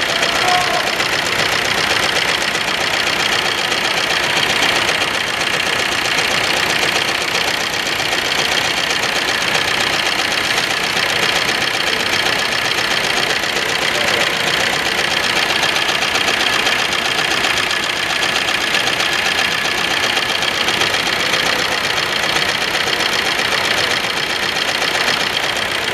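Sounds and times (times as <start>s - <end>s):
diesel engine idling: 0.0s - 25.9s
rapid even ticking: 0.0s - 25.9s.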